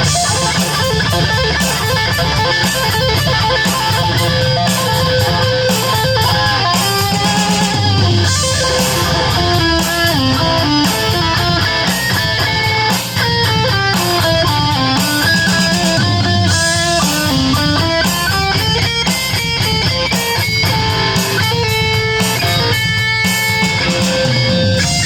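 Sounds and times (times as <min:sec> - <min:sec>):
distorted electric guitar melody: 0:00.0 - 0:25.0
steady low backing: 0:00.0 - 0:25.0.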